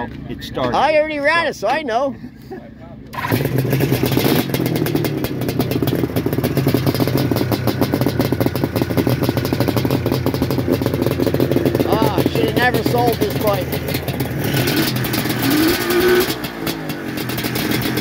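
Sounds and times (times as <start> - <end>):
loud motorcycle engine running: 3.2 - 18.0.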